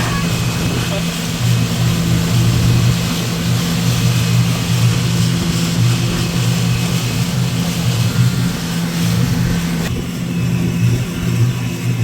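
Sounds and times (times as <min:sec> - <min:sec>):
motorboat engine humming: 0:00.0 - 0:12.0.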